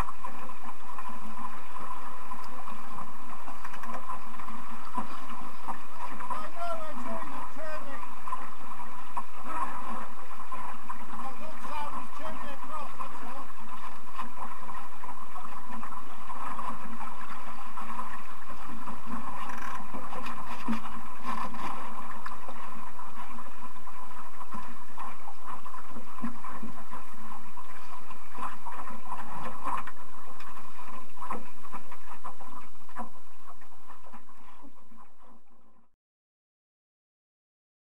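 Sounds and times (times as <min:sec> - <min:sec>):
water rushing: 0:00.0 - 0:35.2
crackles and splashes: 0:00.0 - 0:35.9
wind: 0:00.0 - 0:36.0.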